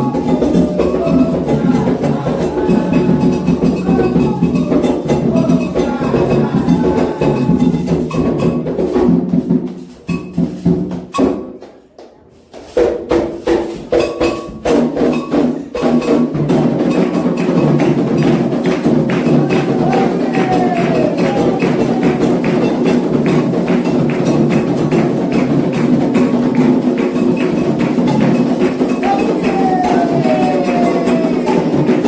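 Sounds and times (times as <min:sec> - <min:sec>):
hand drums: 0:00.0 - 0:11.8, 0:12.6 - 0:32.0.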